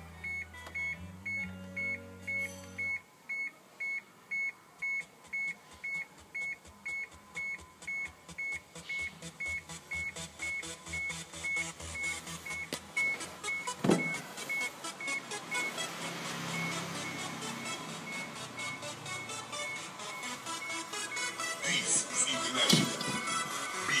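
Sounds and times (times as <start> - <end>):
car warning chime beeping: 0.0 - 24.0
faint steady tones: 0.0 - 24.0.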